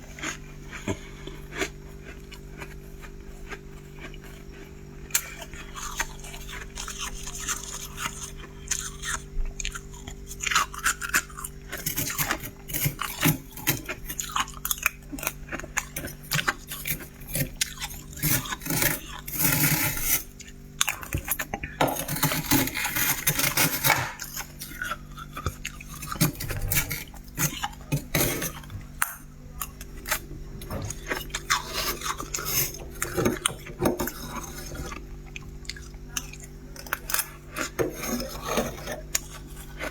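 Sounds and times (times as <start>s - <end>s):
frost crunching and scraping: 0.0s - 39.9s
steady low hum: 0.0s - 39.9s.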